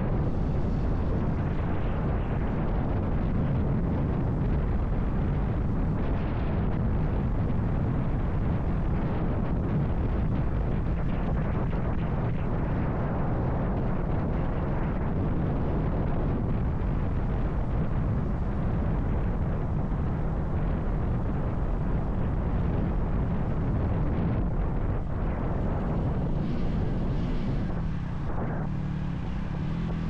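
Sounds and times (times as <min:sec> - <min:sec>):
motorcycle running: 0:00.0 - 0:30.0
wind rushing over microphone: 0:00.0 - 0:30.0.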